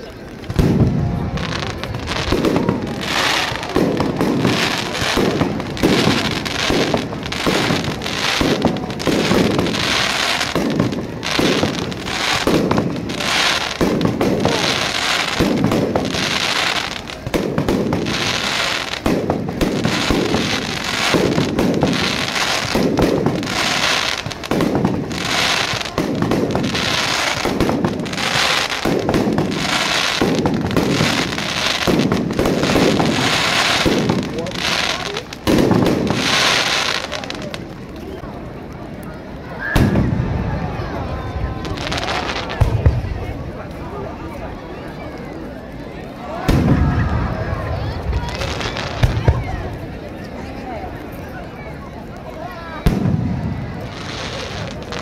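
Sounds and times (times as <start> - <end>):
crackle of firework stars: 0.0 - 55.0.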